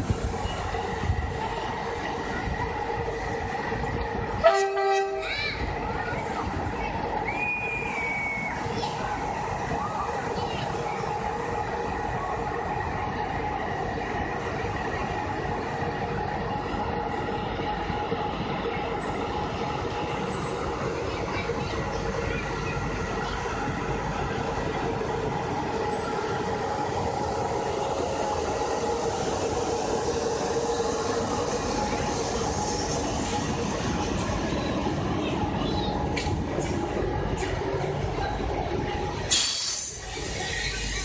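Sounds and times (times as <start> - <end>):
electric locomotive hum: 0.0 - 41.0.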